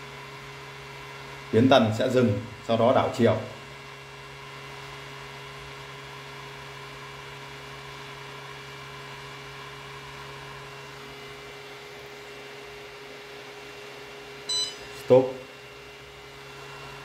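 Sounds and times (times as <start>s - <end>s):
electrical hum with faint whine: 0.0s - 17.0s.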